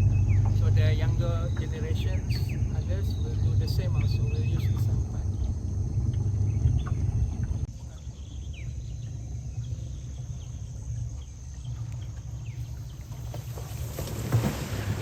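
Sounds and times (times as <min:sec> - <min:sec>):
bird chirps: 0:00.0 - 0:13.0
low rumble: 0:00.0 - 0:15.0.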